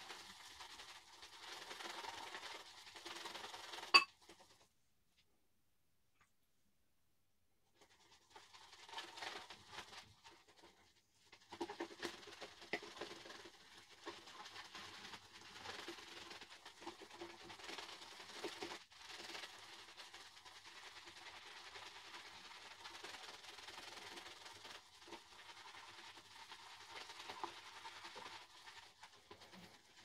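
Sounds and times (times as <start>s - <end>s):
shaving brush swishing lather: 0.0s - 4.6s, 7.8s - 30.0s.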